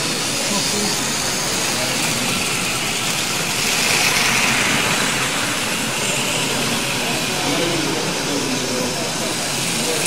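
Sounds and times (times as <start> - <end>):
model train motor whirring: 0.0 - 10.0.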